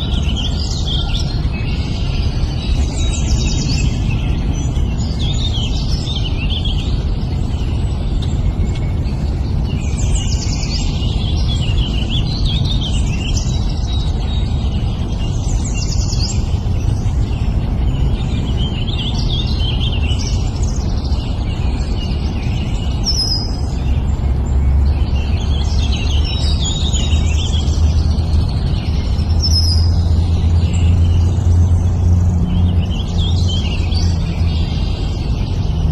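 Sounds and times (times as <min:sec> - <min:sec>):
low hum: 0:00.0 - 0:35.9
small birds chirping: 0:00.0 - 0:35.9.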